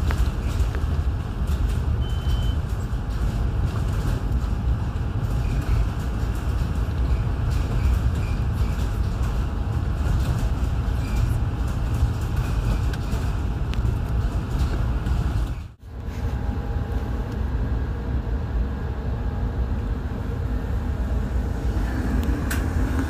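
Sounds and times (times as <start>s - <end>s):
train rumbling on rails: 0.0s - 23.0s.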